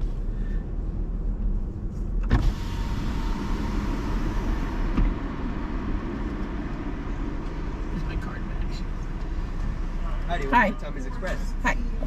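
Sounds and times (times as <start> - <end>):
car idling: 0.0 - 12.0.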